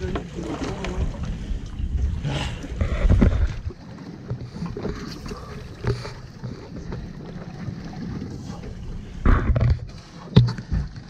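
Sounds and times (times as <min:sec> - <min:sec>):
fishing boat noise: 0:00.0 - 0:11.0.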